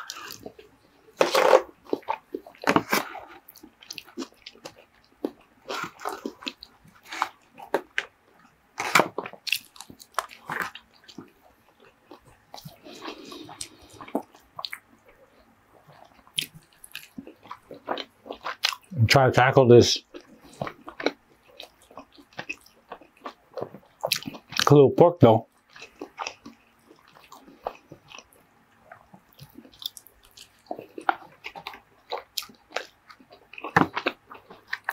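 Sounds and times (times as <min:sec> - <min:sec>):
wet chewing and mouth sounds: 0:00.0 - 0:19.0, 0:20.0 - 0:24.8, 0:25.4 - 0:34.9.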